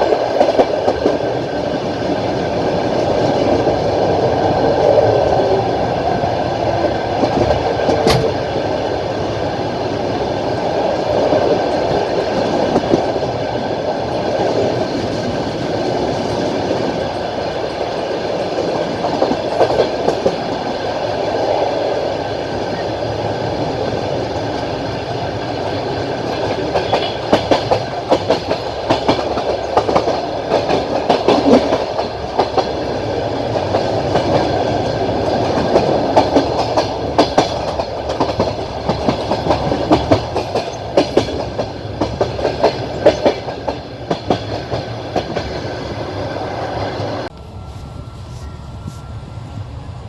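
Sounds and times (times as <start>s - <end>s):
train wheels clattering over rail joints: 0.0s - 3.8s, 6.7s - 21.8s, 22.6s - 45.8s.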